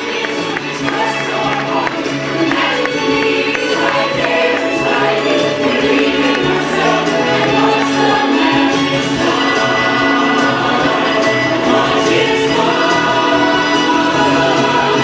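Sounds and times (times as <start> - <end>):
choir singing over music: 0.0 - 15.0.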